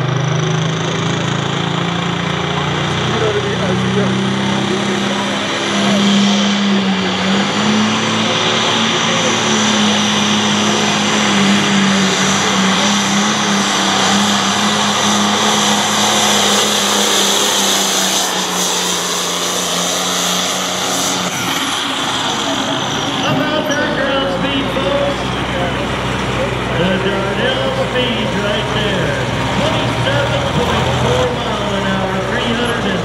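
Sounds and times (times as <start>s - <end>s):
diesel engine droning at full throttle: 0.0s - 33.0s.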